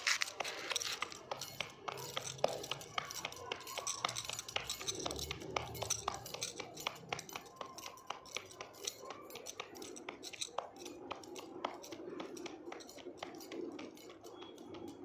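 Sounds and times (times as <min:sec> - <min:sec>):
glass bangles clinking: 0:00.0 - 0:15.0.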